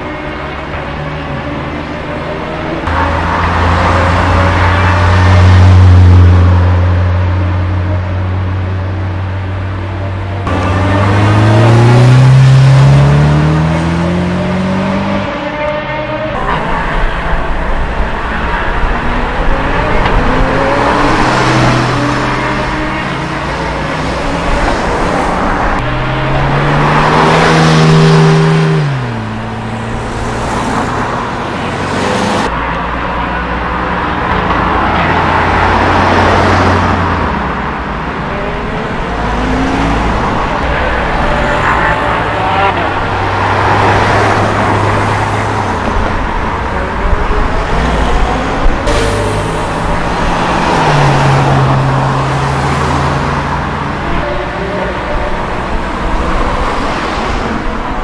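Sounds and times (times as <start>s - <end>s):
cars pulling away and passing: 0.0s - 58.0s
sports car engine: 0.0s - 58.0s.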